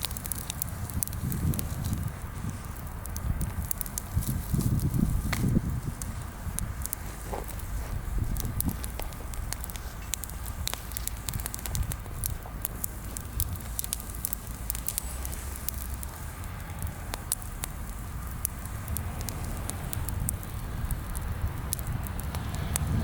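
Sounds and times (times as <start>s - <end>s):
bonfire crackling and popping: 0.0s - 23.0s
fire low rumble: 0.0s - 23.0s.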